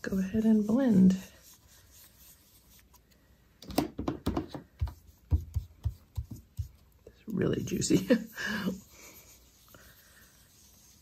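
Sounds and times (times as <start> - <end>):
brush dabbing and scrubbing: 0.0 - 3.2, 4.7 - 11.0.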